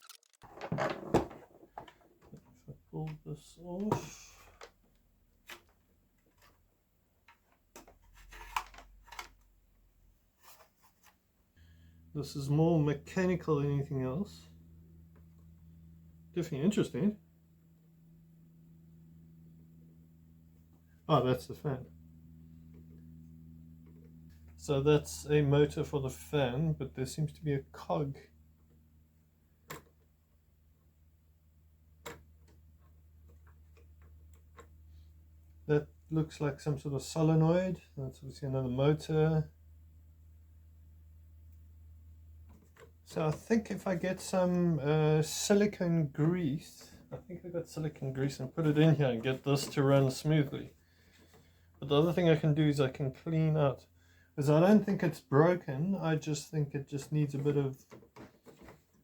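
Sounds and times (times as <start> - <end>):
low steady hum: 11.6 - 58.9.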